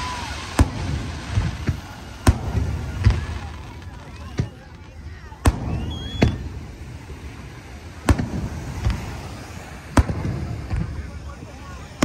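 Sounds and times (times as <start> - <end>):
fireworks booming: 0.0 - 12.0
fireworks popping: 0.0 - 12.0.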